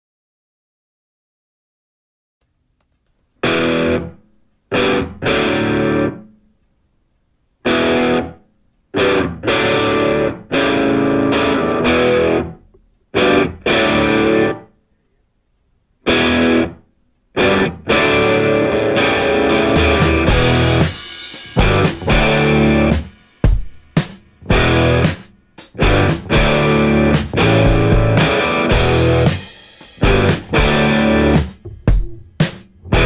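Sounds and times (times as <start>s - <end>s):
distorted electric guitar riff: 3.4s - 6.4s, 7.6s - 14.7s, 16.0s - 33.0s.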